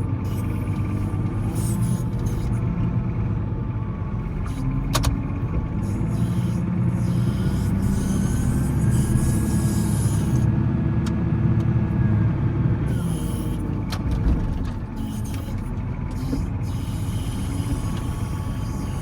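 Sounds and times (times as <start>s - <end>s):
wheel loader diesel engine: 0.0s - 19.0s.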